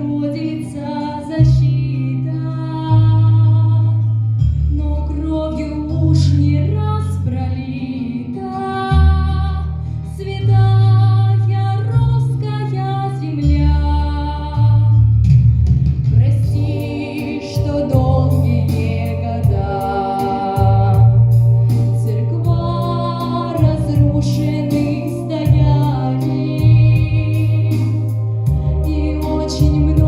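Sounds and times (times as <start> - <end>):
woman singing: 0.0 - 4.1, 4.7 - 15.0, 16.1 - 30.0
instrumental backing track: 0.0 - 30.0.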